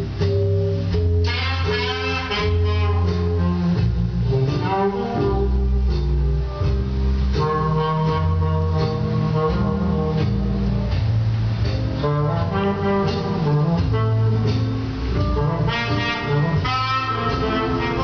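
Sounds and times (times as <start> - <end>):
held melody notes: 0.0 - 18.0
low bass line: 0.0 - 18.0.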